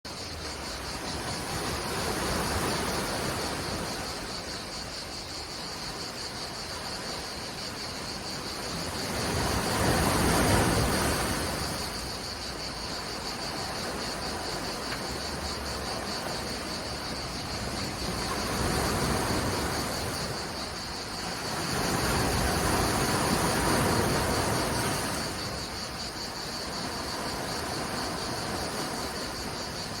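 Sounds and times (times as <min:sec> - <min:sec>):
cicadas chorus: 0:00.1 - 0:30.0
sea waves breaking: 0:00.1 - 0:30.0.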